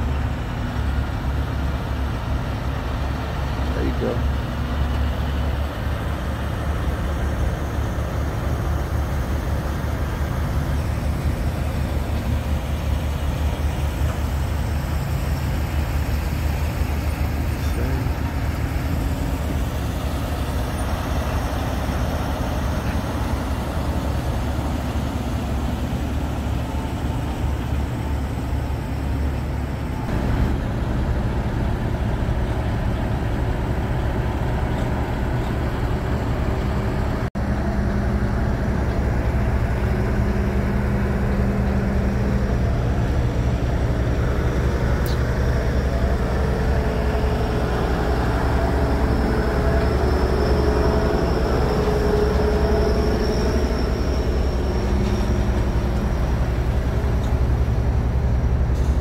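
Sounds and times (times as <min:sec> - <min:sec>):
truck diesel engine idling: 0:00.0 - 0:59.0
truck diesel engine rumbling: 0:00.0 - 0:59.0.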